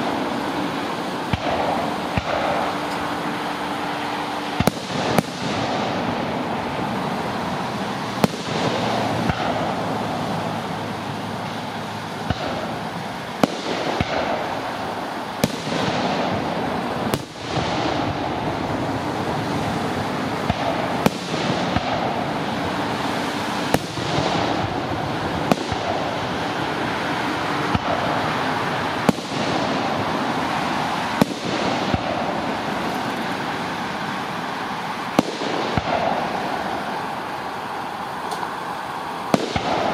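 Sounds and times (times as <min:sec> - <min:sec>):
fireworks bursting: 0:00.0 - 0:39.9
steady background noise: 0:00.0 - 0:39.9.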